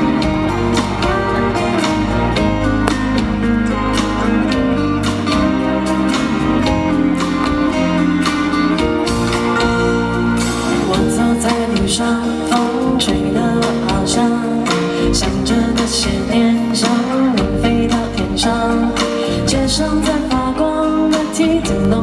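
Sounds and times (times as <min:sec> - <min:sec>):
live pop band playing: 0:00.0 - 0:22.0
steady drum beat: 0:00.0 - 0:22.0.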